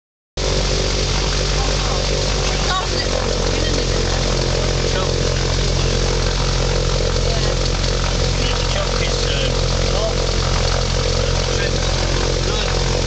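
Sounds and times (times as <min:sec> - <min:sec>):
aircraft engine and propeller: 0:00.4 - 0:13.0.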